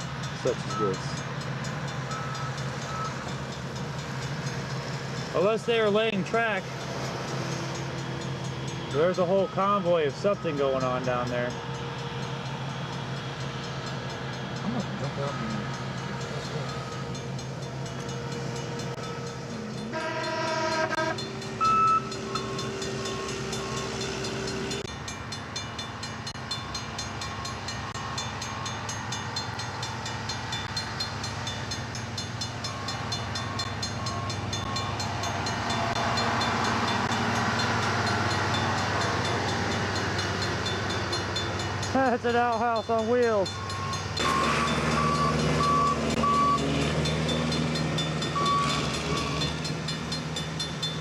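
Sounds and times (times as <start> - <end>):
crossing bell dinging: 0.0 - 51.0
rail equipment rumbling and clattering: 0.0 - 51.0.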